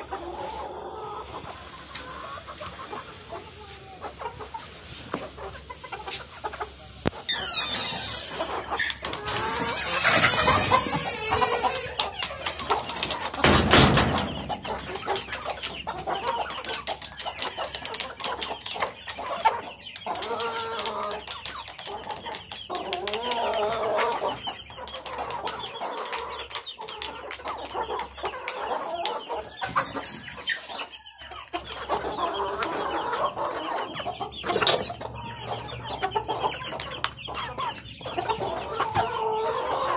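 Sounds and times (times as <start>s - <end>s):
hens and roosters clucking: 0.0s - 39.9s.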